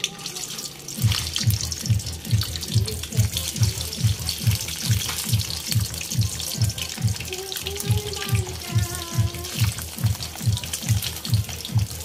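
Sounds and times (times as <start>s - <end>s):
meat sizzling in hot oil: 0.0s - 12.0s
background music with low beat: 0.9s - 12.0s.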